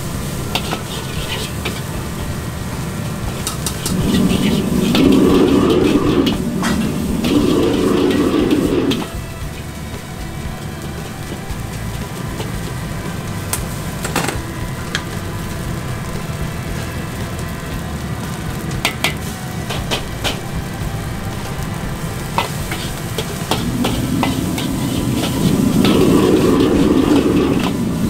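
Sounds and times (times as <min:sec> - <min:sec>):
metal ladle scraping wok: 0:00.0 - 0:17.2, 0:21.2 - 0:28.0
gas burner roar: 0:00.0 - 0:28.0
rice sizzling: 0:00.0 - 0:28.0.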